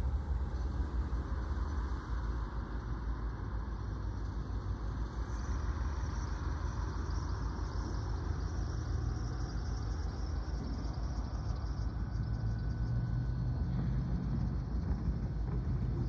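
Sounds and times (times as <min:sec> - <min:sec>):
distant diesel locomotive rumble: 0:00.0 - 0:16.0.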